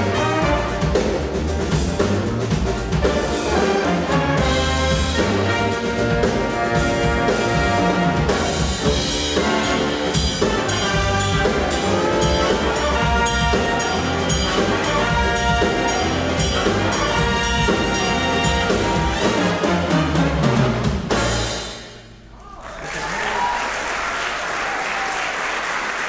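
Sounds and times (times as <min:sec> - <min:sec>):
brass section playing jazz: 0:00.0 - 0:21.9
steady bass line: 0:00.0 - 0:22.2
drums: 0:00.0 - 0:26.0.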